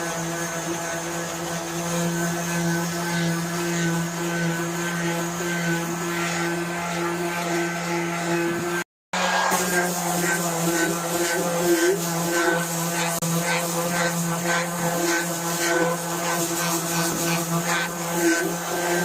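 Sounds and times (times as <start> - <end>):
power tool sanding metal: 0.0 - 19.0.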